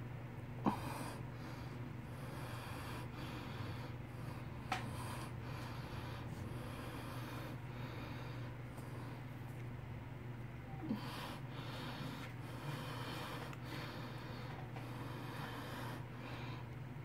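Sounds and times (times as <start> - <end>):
steady low hum: 0.0 - 17.0
man breathing: 0.6 - 9.3, 10.9 - 16.8.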